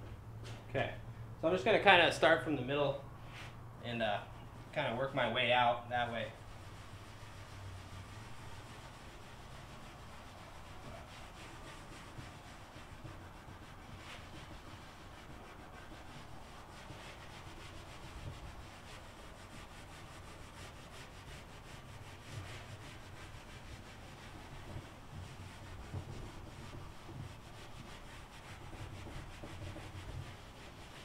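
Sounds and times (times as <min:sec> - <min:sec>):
hands brushing carpet: 0:03.3 - 0:31.0.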